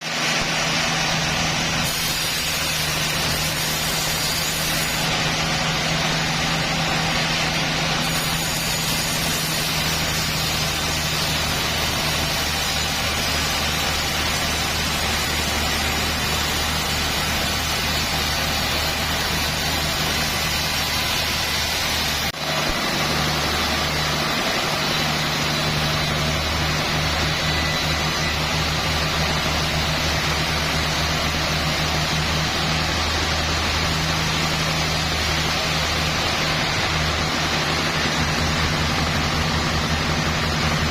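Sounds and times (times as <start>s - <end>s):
sawmill machinery humming: 0.0s - 40.9s
hiss: 0.1s - 38.6s.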